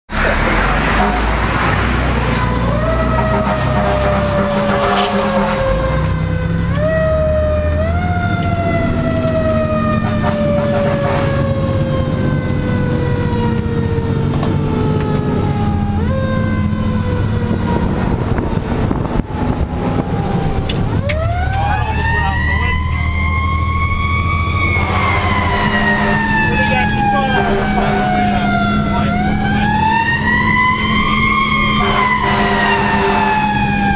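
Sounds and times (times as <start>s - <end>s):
fire engine siren wailing: 0.1s - 33.9s
truck engine droning: 0.1s - 33.9s.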